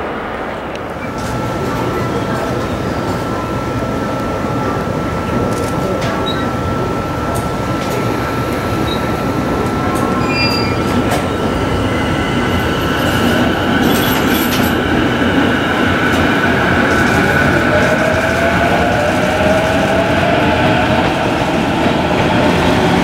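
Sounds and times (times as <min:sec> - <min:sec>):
constant high whine: 0:00.0 - 0:22.2
rail noise: 0:00.0 - 0:23.0.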